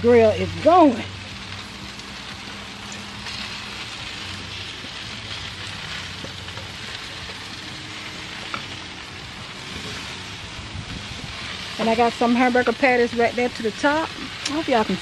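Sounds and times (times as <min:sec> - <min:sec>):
chicken sizzling on a grill: 0:00.0 - 0:15.0.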